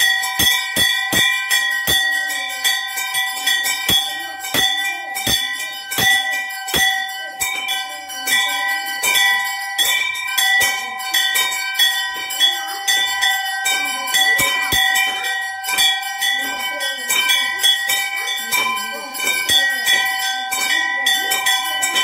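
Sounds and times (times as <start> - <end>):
sharp bell clanging strikes: 0.0 - 22.0
temple bells ringing: 0.0 - 22.0.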